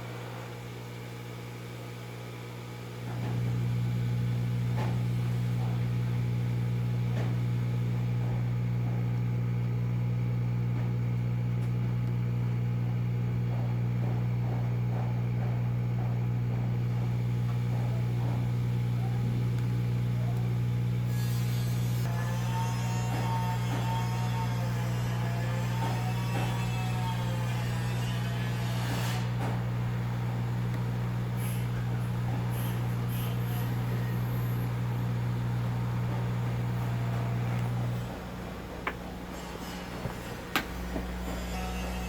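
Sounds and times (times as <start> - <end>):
hot air station fan hum: 0.0 - 42.0.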